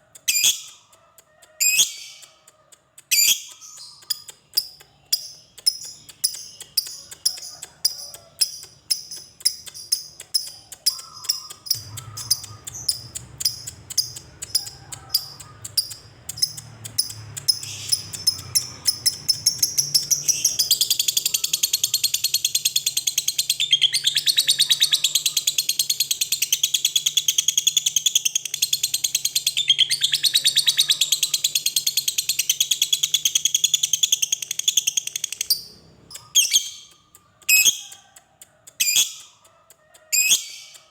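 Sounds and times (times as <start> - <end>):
lovebird chirping and chattering: 0.0 - 1.0, 1.6 - 39.5, 40.1 - 40.9.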